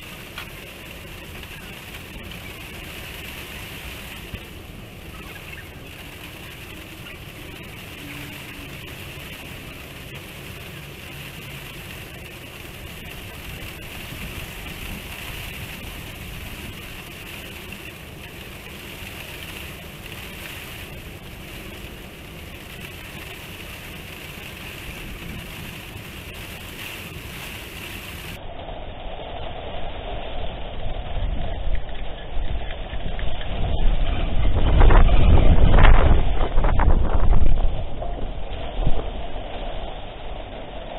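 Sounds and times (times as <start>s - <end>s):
wind and rain hiss: 0.0s - 40.9s
wind gusts hitting microphone: 0.0s - 40.9s.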